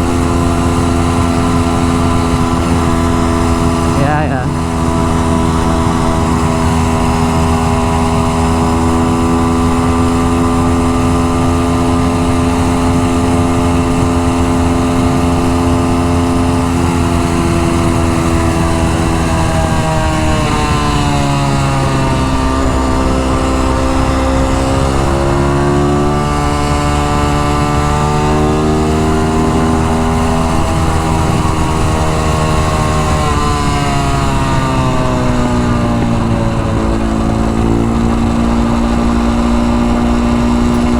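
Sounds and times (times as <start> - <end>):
minibike engine running: 0.0 - 40.9.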